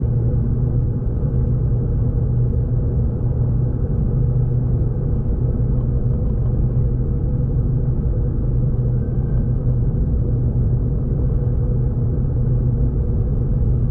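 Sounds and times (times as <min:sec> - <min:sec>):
low hum: 0:00.0 - 0:13.9.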